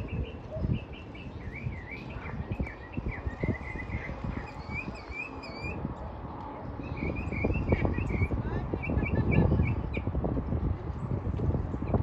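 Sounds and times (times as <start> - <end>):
songbirds singing: 0.0 - 10.2
wind buffeting microphone: 0.0 - 12.0.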